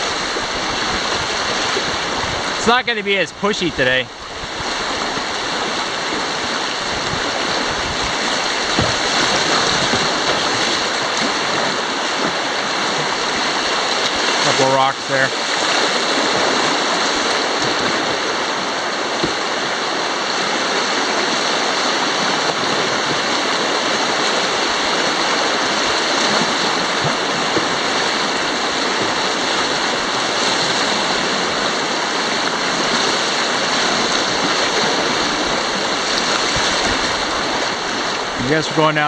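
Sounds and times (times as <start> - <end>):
whitewater rushing: 0.0 - 39.0.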